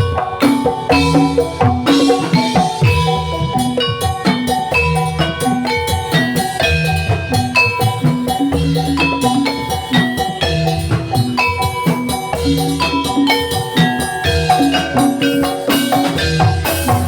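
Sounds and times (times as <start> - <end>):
bronze mallet instruments melody: 0.0 - 17.0
steady drum beats: 0.0 - 17.0.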